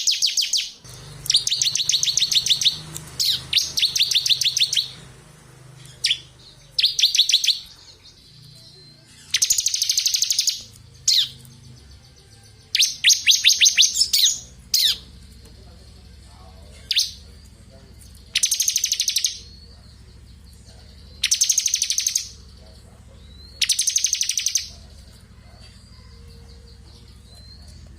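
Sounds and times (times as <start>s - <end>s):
bird chirping rattles: 0.0s - 12.0s, 12.6s - 27.9s.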